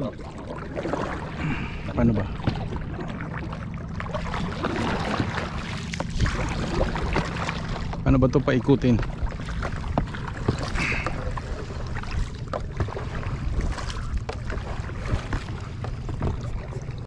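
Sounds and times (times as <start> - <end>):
boat rumbling: 0.0 - 17.0.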